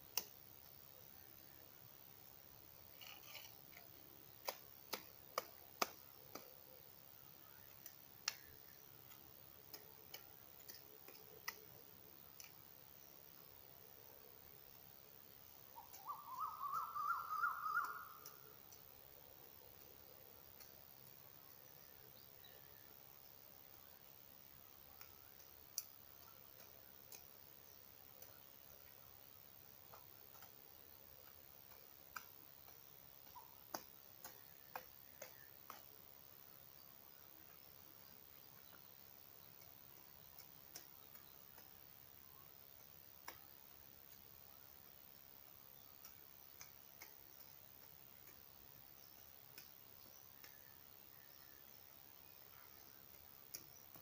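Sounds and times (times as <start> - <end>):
faint clicks: 0.1 - 0.7, 2.9 - 12.8, 15.8 - 21.9, 23.7 - 44.8, 45.6 - 54.0.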